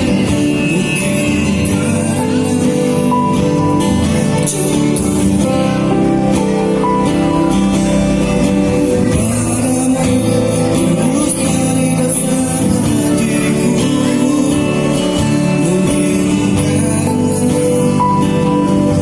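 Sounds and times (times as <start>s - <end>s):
song through sound system: 0.0s - 19.0s.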